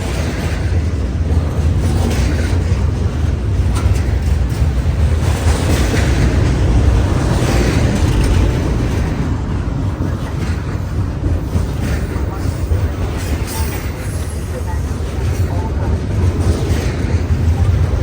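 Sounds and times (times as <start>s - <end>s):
freight train rolling on rails: 0.0s - 18.0s.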